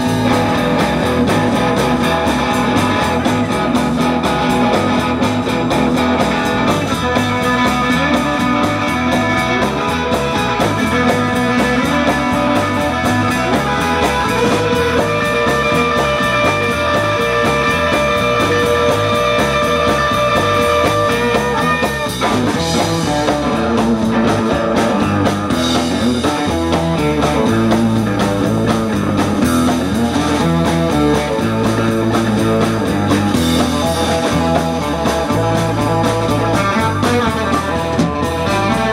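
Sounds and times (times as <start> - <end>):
electric guitar: 0.0 - 38.9
live rock band playing: 0.0 - 38.9.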